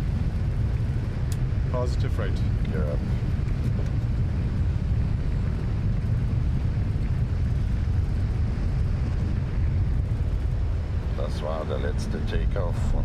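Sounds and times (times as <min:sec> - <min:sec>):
aircraft engine and airflow rumble: 0:00.0 - 0:13.0.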